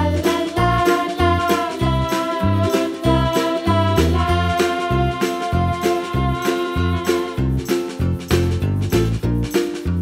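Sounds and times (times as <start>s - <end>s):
background music with bass beat: 1.4s - 10.0s.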